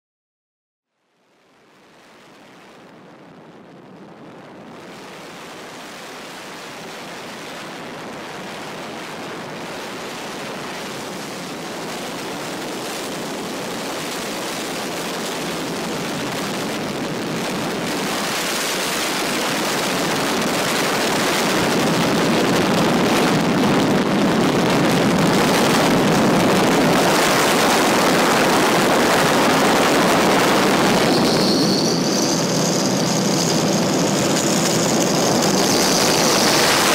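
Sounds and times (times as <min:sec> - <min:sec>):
wind rushing over microphone: 0:02.0 - 0:36.9.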